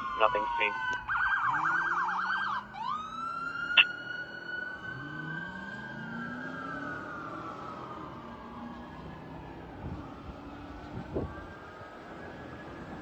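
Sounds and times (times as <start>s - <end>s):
fire engine siren: 0.0s - 13.0s.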